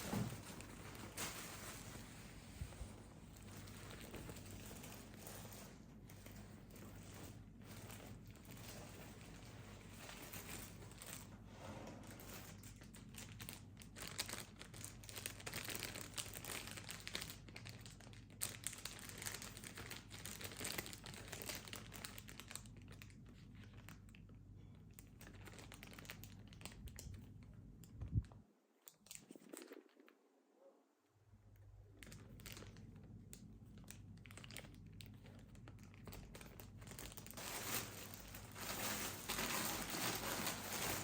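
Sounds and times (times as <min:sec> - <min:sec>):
packaging crinkling and rustling: 0:00.0 - 0:30.2, 0:31.8 - 0:41.0.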